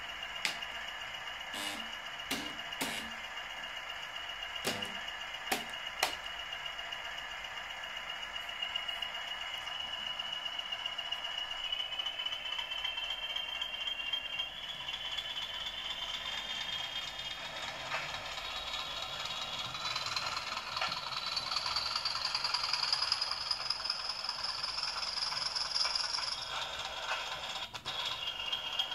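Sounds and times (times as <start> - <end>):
model train motor whining: 0.0 - 28.9.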